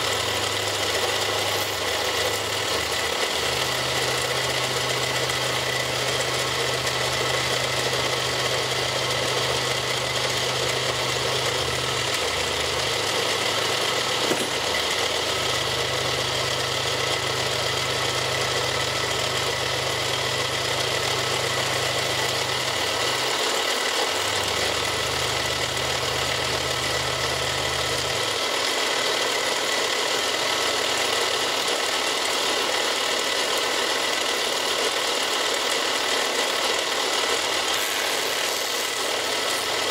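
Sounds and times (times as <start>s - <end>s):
milling machine cutting plastic: 0.0s - 39.9s.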